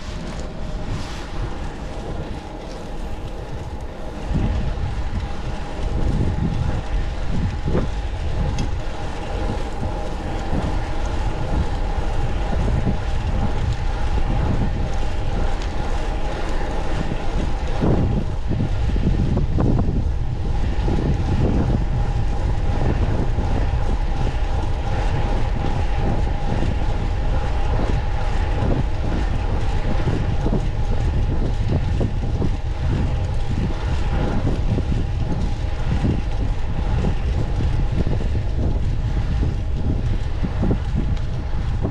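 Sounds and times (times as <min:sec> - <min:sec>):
bicycle rolling on road: 0:00.0 - 0:41.9.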